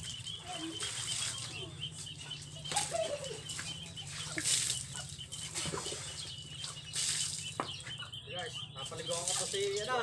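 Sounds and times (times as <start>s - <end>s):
water splashing: 0.0s - 7.8s, 8.8s - 10.0s.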